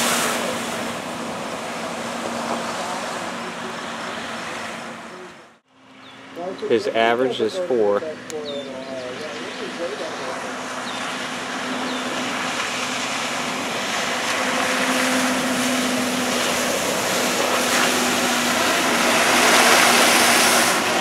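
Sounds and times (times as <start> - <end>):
water ski spray: 0.0 - 5.5, 6.4 - 21.0
water rushing past hull: 0.0 - 5.6, 8.6 - 21.0
boat engine humming: 0.0 - 21.0.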